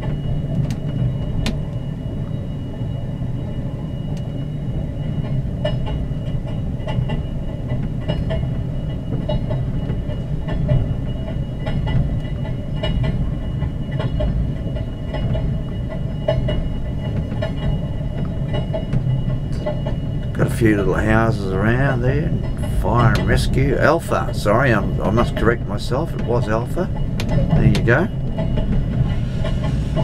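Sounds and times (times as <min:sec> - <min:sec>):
train rumble: 0:00.0 - 0:30.0
wheels clicking on rails: 0:04.0 - 0:30.0.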